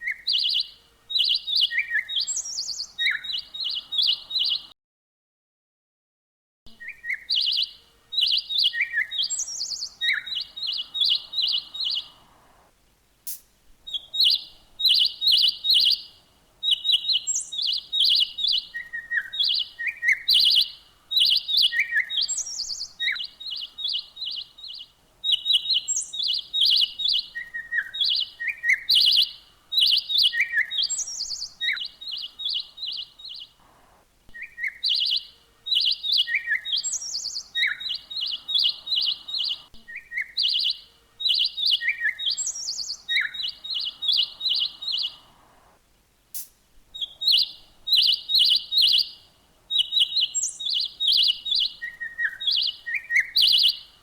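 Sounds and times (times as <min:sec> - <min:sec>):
birds chirping: 0:00.0 - 0:04.7, 0:06.7 - 0:54.0.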